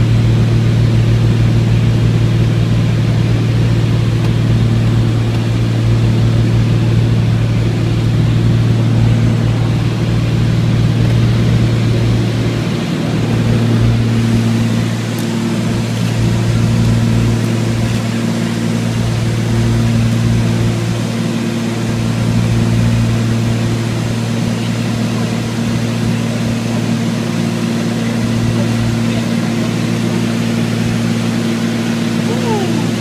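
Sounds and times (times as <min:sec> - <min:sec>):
light plane engine drone: 0:00.0 - 0:33.0.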